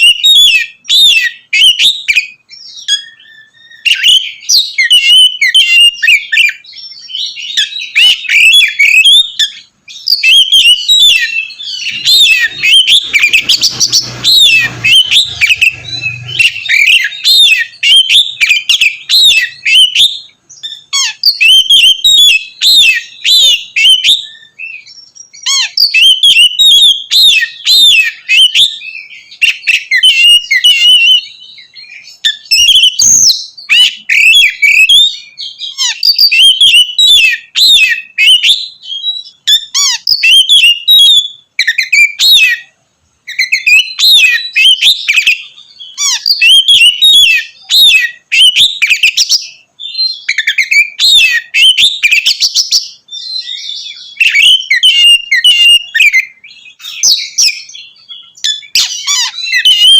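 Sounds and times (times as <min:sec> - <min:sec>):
songbird singing whistled notes: 0:00.0 - 0:59.9.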